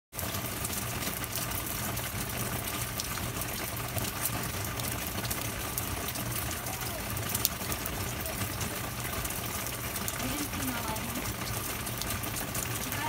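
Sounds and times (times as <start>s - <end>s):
steady rain falling: 0.1s - 13.0s.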